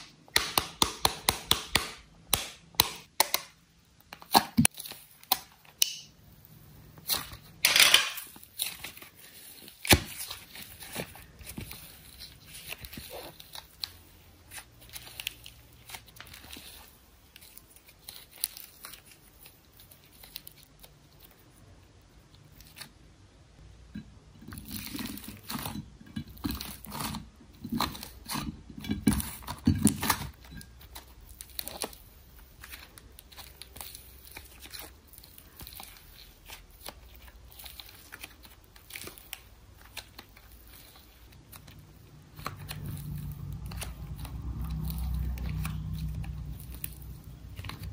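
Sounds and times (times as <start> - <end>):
hands kneading slime: 0.0 - 7.6, 8.2 - 47.9
slime crackling and popping: 0.0 - 21.4, 29.1 - 47.9.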